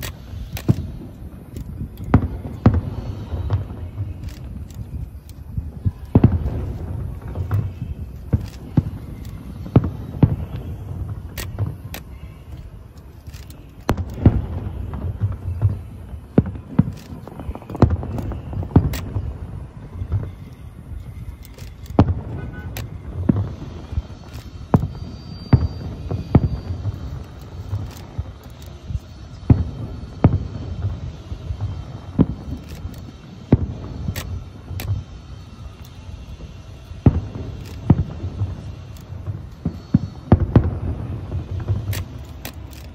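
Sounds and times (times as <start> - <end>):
continuous low rumble: 0.0 - 42.9
firework shells booming: 0.0 - 42.9.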